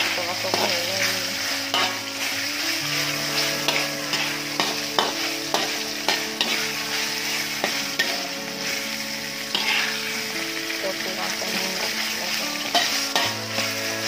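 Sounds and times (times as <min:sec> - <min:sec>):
chicken sizzling in a wok: 0:00.0 - 0:14.0
metal spatula scraping a pan: 0:00.0 - 0:14.0.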